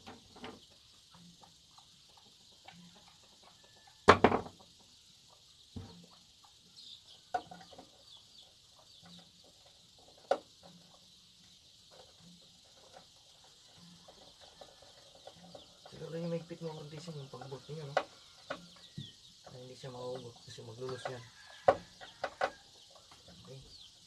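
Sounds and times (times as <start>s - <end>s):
insects hissing: 0.0s - 24.0s.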